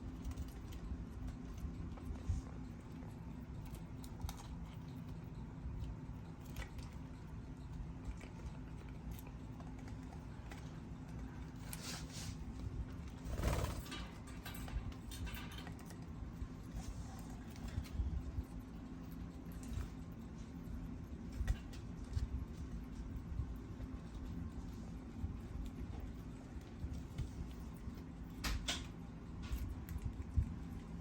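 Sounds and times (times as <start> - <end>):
birds pecking and clicking: 0.0 - 31.0
steady low hum: 0.0 - 31.0.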